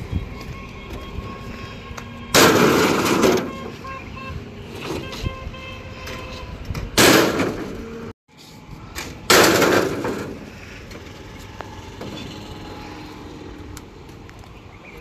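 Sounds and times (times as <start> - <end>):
outdoor background: 0.0 - 15.0.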